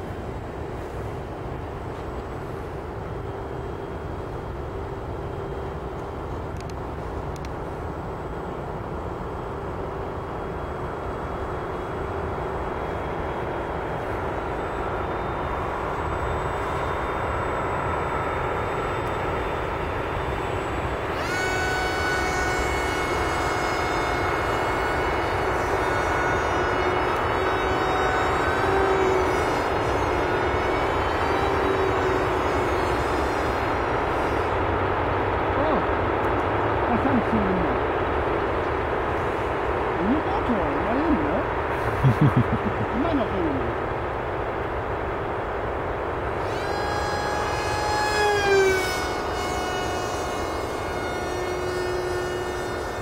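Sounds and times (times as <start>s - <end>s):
model airplane motor whining: 0.0s - 43.6s, 45.4s - 53.0s.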